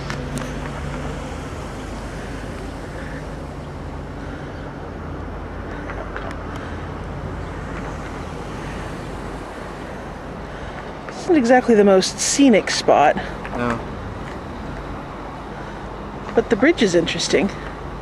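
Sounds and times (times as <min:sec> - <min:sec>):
low rumble and hiss: 0:00.0 - 0:17.4.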